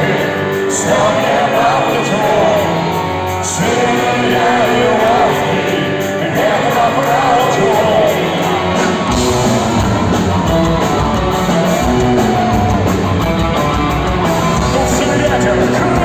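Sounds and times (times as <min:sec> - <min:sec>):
bass guitar: 0:00.0 - 0:16.0
drum kit: 0:00.0 - 0:16.0
electric guitar: 0:00.0 - 0:16.0
live rock band playing: 0:00.0 - 0:16.0.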